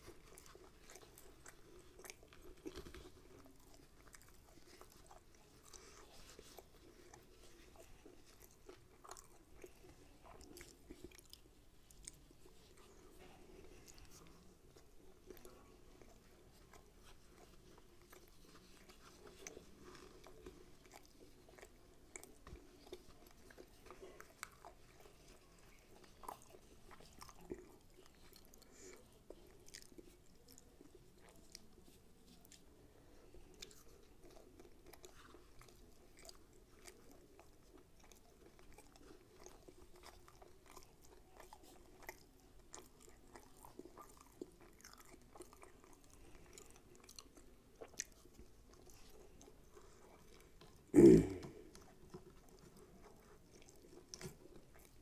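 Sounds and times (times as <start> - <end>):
faint chewing: 0.0 - 55.0.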